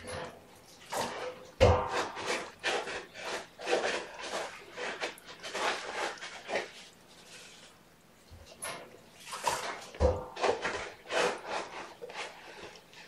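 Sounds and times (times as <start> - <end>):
scoop scraping cat litter: 0.0 - 7.8, 9.2 - 13.0.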